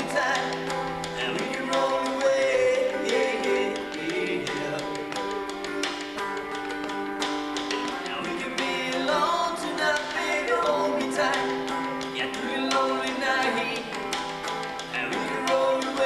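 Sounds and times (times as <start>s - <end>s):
person singing: 0.0s - 5.7s, 7.8s - 14.2s, 14.9s - 16.0s
acoustic guitar chords: 0.0s - 16.0s.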